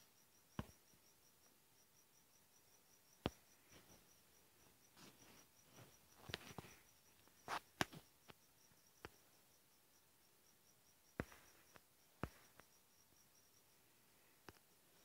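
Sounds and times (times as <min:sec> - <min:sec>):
faint high pulsing chirping: 0:00.0 - 0:15.0.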